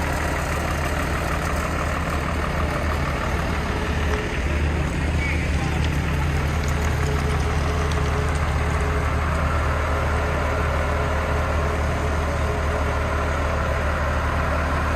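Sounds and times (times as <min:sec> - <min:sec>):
diesel truck engine running: 0:00.0 - 0:14.9.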